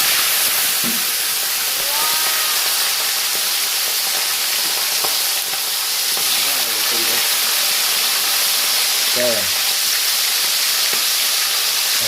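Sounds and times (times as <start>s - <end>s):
quail sizzling in hot oil: 0.0s - 12.0s.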